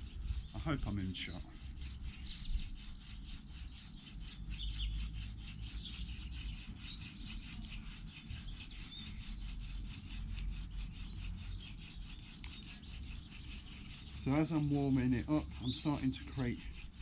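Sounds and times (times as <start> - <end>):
wooden spindle rubbing on board: 0.0 - 17.0.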